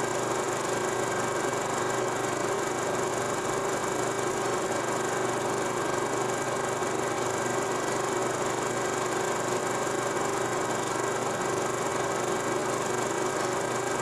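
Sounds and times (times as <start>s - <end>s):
film projector whirring: 0.0s - 14.0s.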